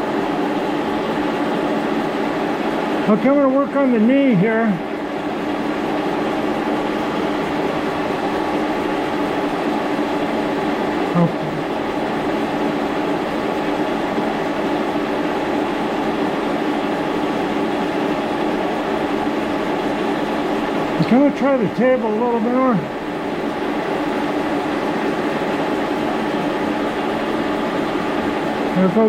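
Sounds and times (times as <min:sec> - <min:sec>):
steady machinery hum: 0:00.0 - 0:29.0.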